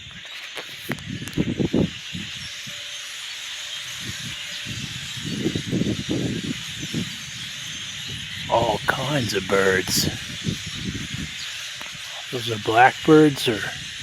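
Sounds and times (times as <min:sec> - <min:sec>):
flock of birds chattering: 0:00.0 - 0:14.0.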